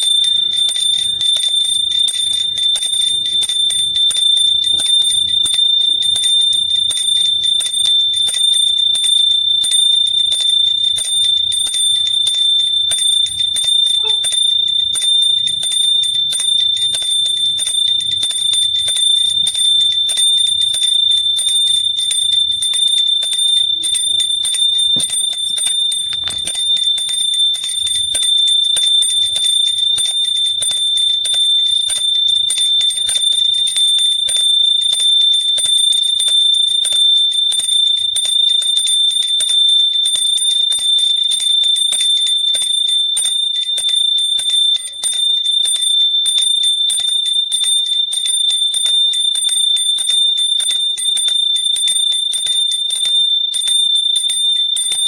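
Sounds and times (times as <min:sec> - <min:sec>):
hand bell ringing: 0:00.0 - 0:55.0.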